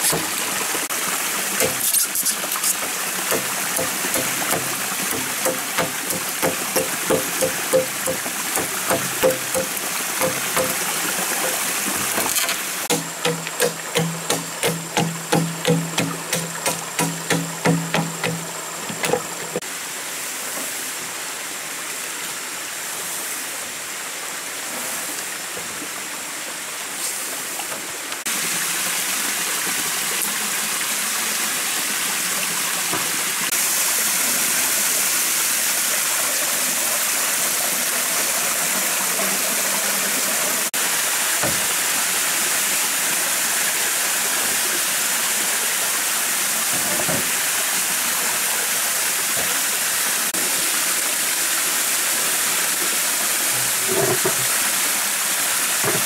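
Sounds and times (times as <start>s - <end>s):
stream and waterfall over rock: 0.0s - 56.0s.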